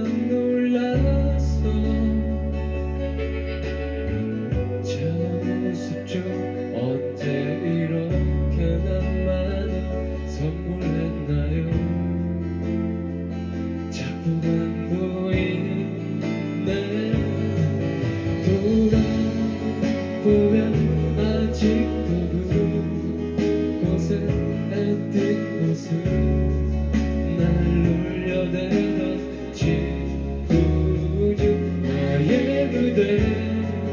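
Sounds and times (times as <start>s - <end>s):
live pop band playing: 0.0s - 33.9s
strummed guitar: 0.0s - 33.9s
sustained bass notes: 0.0s - 33.9s.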